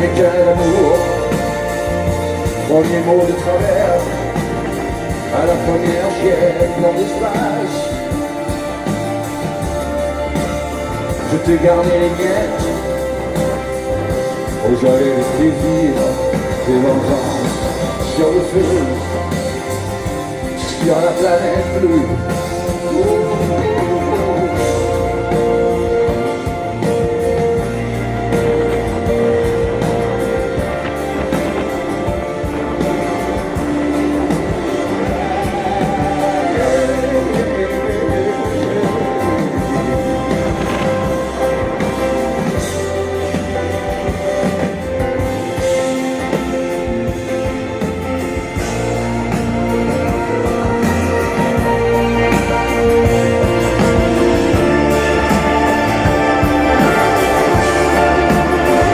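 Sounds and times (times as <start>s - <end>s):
bass: 0.0s - 58.9s
guitar: 0.0s - 58.9s.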